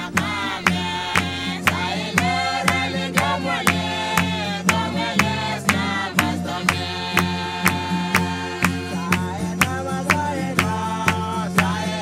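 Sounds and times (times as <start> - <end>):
group singing: 0.0 - 12.0
strummed ukulele: 0.0 - 12.0.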